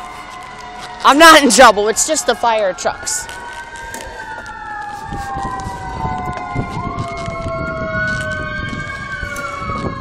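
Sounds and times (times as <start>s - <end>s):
fire truck sirens wailing: 0.0s - 10.0s.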